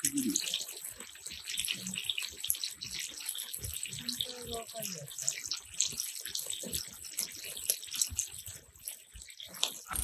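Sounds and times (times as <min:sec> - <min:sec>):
oil sizzling in a skillet: 0:00.0 - 0:10.0
wood fire crackling: 0:00.0 - 0:10.0.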